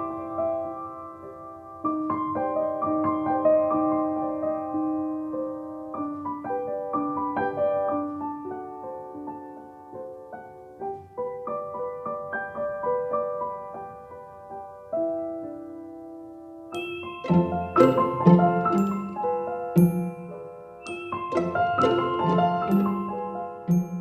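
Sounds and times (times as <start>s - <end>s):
soft slow piano music: 0.0s - 24.0s.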